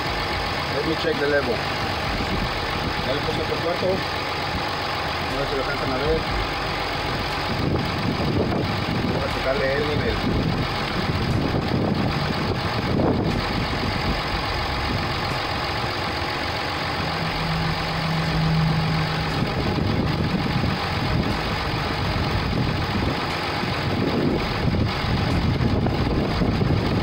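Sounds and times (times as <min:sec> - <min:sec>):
diesel engine idling: 0:00.0 - 0:27.0
low hum: 0:01.5 - 0:27.0.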